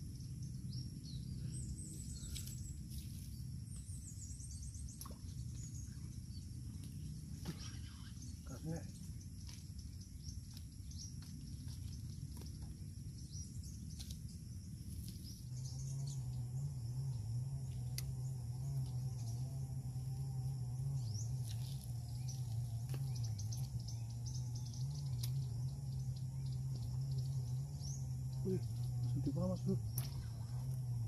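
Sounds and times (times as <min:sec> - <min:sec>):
insects buzzing: 0:00.0 - 0:31.0
low wavering hum: 0:00.0 - 0:31.0.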